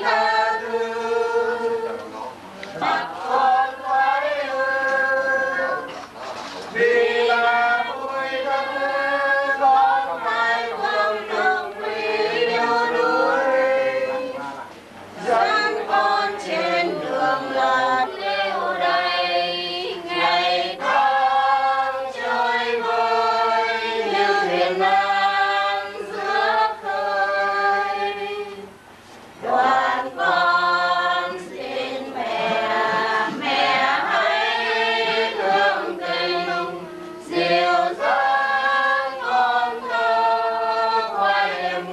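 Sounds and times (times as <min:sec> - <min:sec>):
choir singing a hymn: 0:00.0 - 0:41.9.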